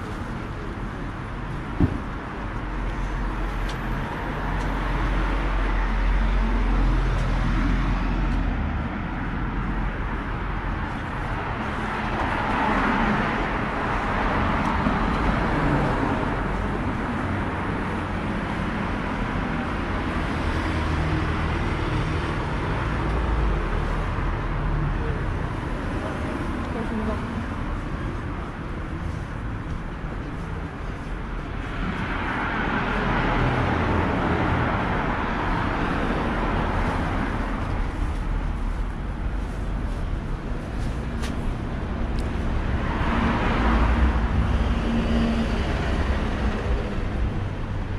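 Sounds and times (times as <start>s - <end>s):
low rumble of traffic: 0.0s - 47.9s
passing cars: 0.0s - 47.9s.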